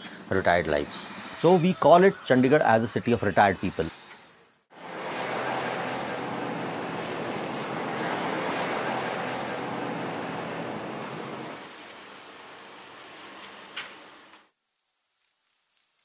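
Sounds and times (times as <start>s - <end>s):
road traffic noise: 0.0s - 14.5s.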